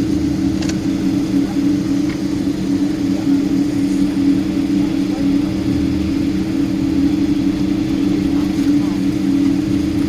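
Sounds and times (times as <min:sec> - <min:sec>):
jet engines droning: 0:00.0 - 0:10.0.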